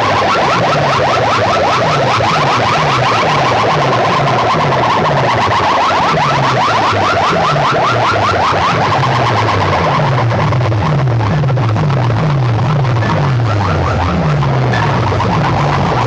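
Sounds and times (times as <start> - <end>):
fast warbling alarm-like tone: 0.0 - 16.0
deep falling bass sweeps: 0.6 - 16.0.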